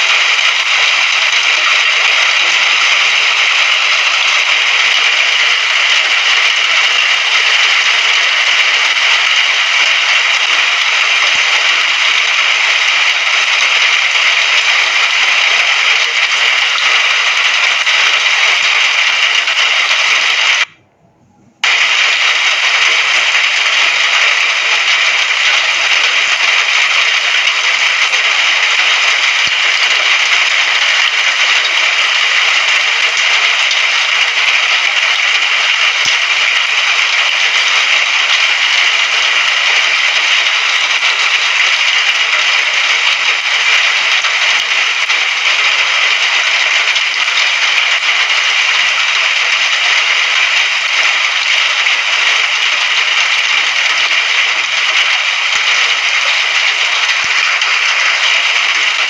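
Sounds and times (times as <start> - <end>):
steady rain: 0.0 - 20.8, 21.6 - 59.0.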